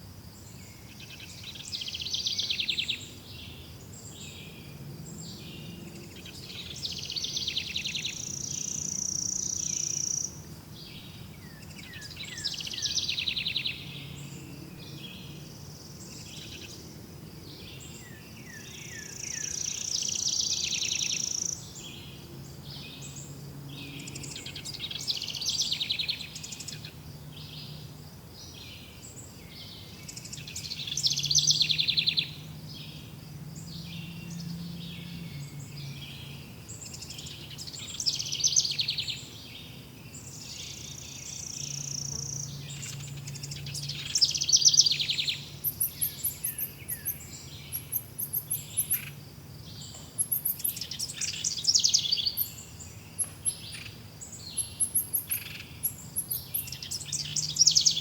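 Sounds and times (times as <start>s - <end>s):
birds singing: 0.4s - 58.0s.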